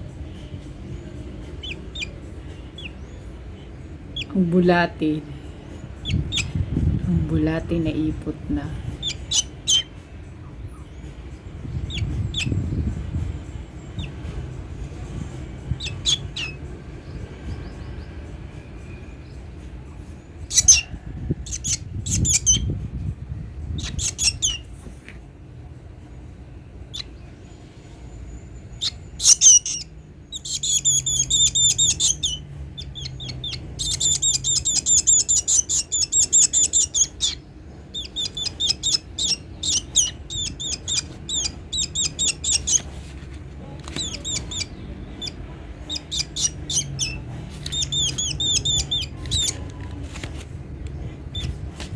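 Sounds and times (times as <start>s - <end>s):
baby bird chirping: 0.0s - 18.1s, 20.4s - 22.9s, 23.6s - 24.8s, 26.8s - 27.4s, 28.5s - 50.4s, 51.0s - 51.7s.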